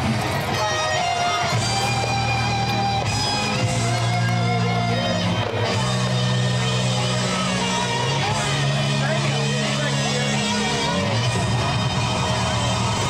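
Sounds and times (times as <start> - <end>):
music with held low notes: 0.0 - 13.0.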